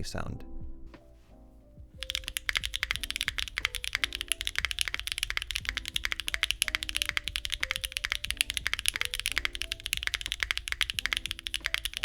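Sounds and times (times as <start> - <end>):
fast keyboard typing: 2.0 - 12.0.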